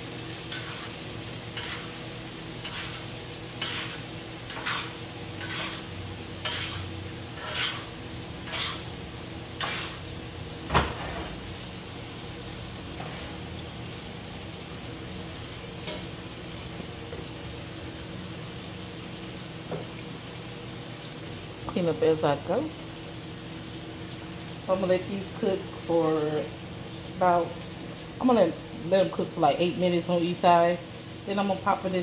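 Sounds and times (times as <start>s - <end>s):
steaks sizzling in a skillet: 0.0s - 32.0s.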